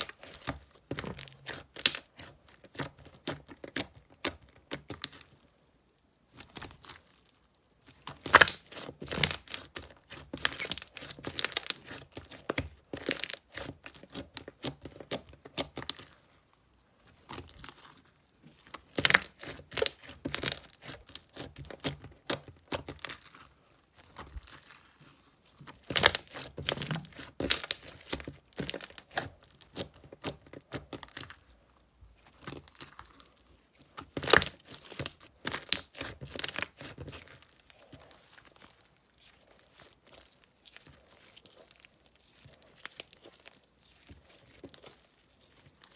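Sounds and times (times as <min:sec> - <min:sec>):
slime crackling and popping: 0:00.0 - 0:05.4, 0:06.4 - 0:16.2, 0:17.2 - 0:24.9, 0:25.7 - 0:31.5, 0:32.2 - 0:45.9.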